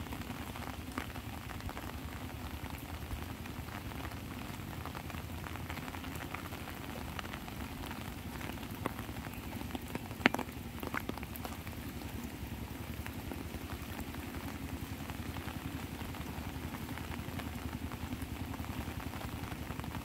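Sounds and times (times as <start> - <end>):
rain pattering on an umbrella: 0.0 - 20.0.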